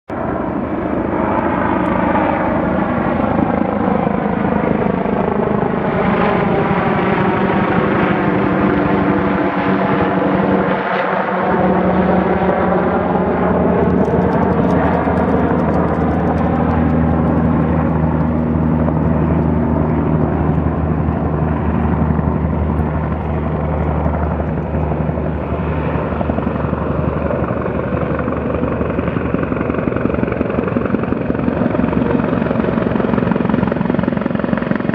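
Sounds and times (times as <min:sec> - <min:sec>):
helicopter rotor and turbine noise: 0:00.1 - 0:34.9.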